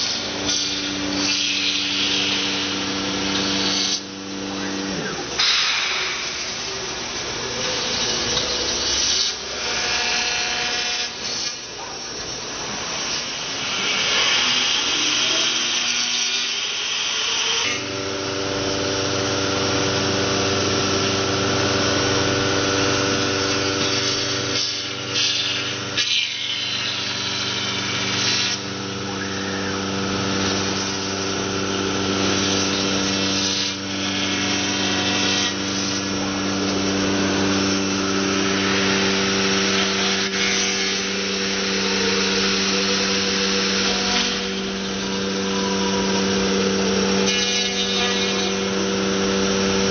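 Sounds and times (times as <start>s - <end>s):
router spindle whine and hum: 0.0s - 49.9s.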